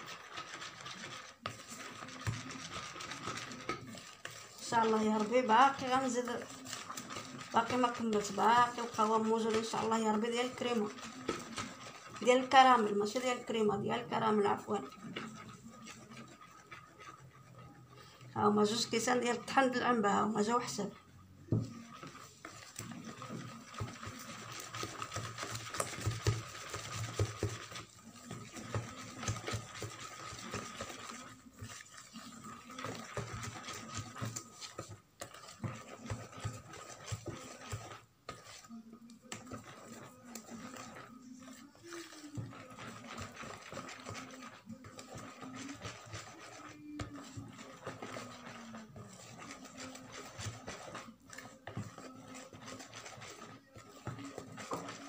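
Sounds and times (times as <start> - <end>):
whisk clicking and scraping bowl: 0.0 - 55.0.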